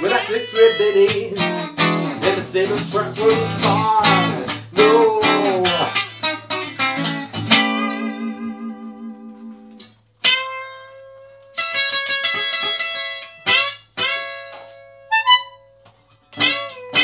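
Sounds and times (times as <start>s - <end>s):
guitar chords and picked notes: 0.0s - 17.0s.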